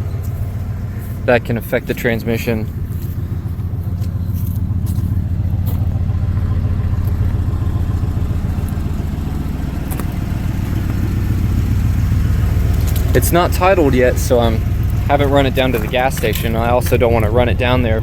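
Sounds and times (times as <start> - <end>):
pickup engine idling: 0.0 - 18.0.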